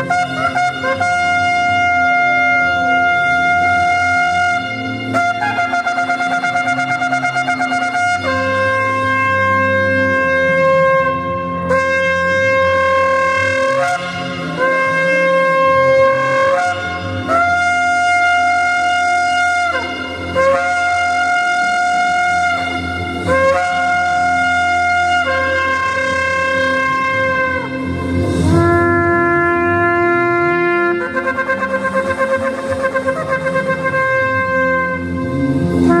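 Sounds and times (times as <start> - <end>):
shofar blown in long notes: 0.0 - 36.0.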